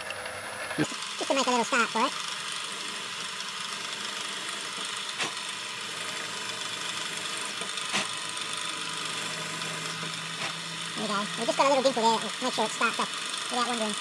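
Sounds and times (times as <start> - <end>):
milling machine spindle running: 0.0 - 14.0.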